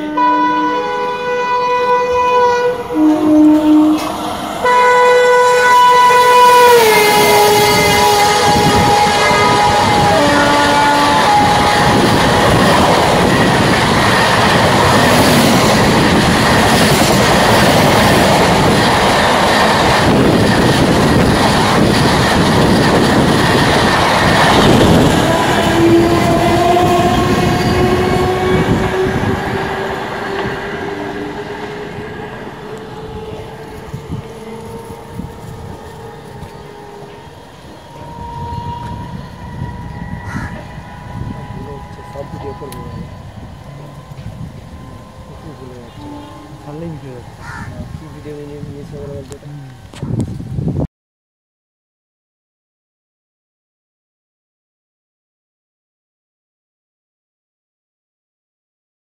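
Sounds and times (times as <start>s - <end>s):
train wheels rushing on rails: 0.8s - 50.5s.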